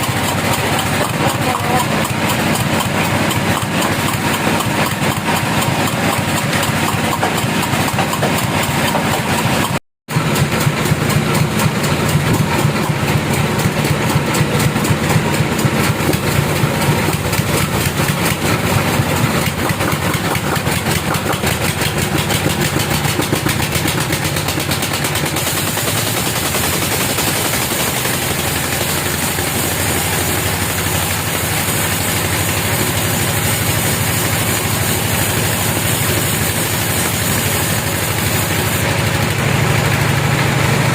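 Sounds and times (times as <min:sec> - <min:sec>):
engine running with fast pulse: 0:00.0 - 0:40.9.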